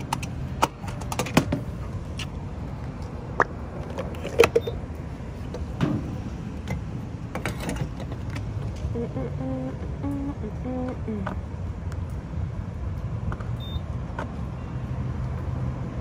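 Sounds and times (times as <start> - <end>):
low steady rumble: 0.0 - 15.1.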